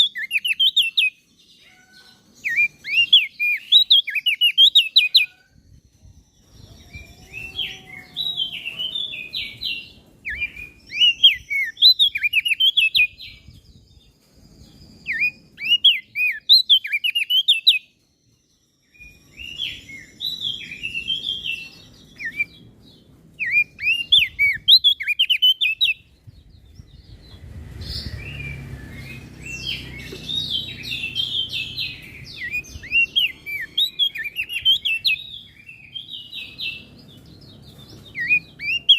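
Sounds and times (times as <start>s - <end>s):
low rumbling background noise: 0.0s - 16.6s, 17.2s - 38.9s
songbird chirping: 0.0s - 38.9s.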